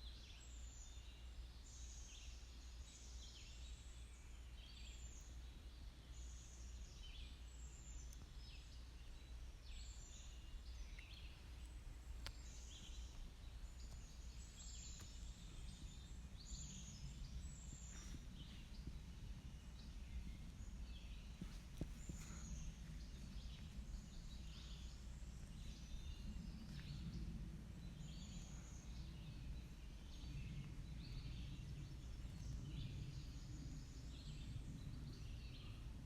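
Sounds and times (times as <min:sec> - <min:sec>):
songbirds chirping: 0:00.0 - 0:36.0
faint low rumble: 0:00.1 - 0:36.0.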